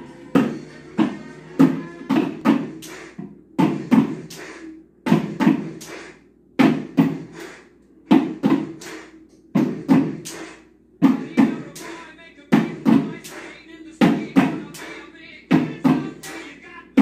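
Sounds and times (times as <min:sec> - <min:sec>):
plastic buckets drummed with sticks: 0:00.3 - 0:06.0, 0:06.6 - 0:07.5, 0:08.1 - 0:17.0.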